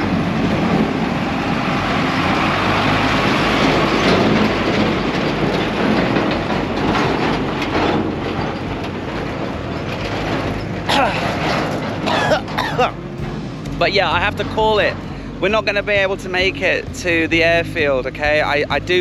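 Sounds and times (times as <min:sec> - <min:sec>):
dump truck engine rumbling: 0:00.0 - 0:19.0
steel tipper body rattling: 0:00.0 - 0:19.0.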